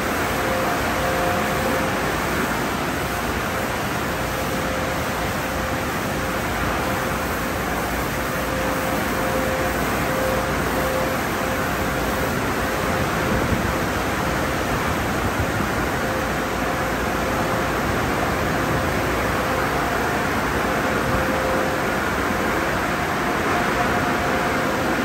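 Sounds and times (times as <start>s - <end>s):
faint steady whine: 0.0s - 25.0s
high-pressure water spray hissing: 0.0s - 25.0s.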